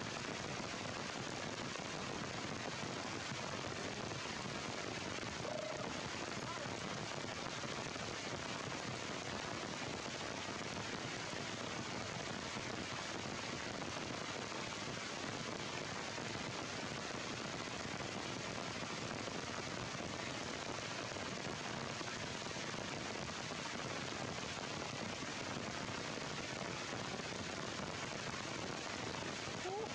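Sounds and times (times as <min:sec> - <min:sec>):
heavy rain on tree leaves: 0:00.0 - 0:29.9.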